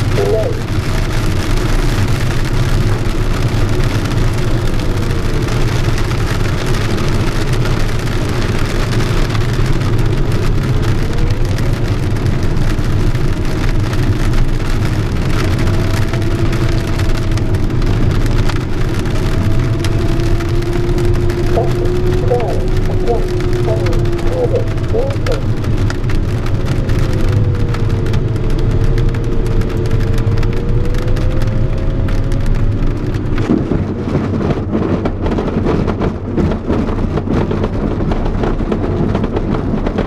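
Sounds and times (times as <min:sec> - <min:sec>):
low rumble: 0:00.0 - 0:40.0
rain on cockpit: 0:00.0 - 0:40.0.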